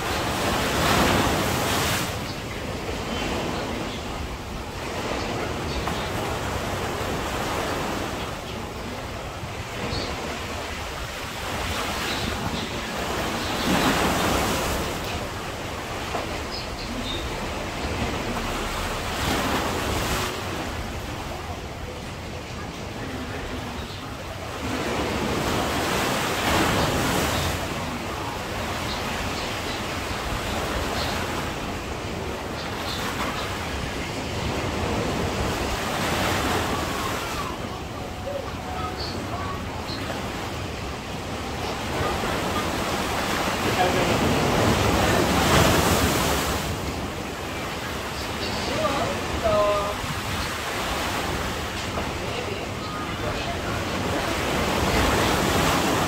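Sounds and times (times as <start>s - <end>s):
sea surf breaking on beach: 0.0s - 56.0s.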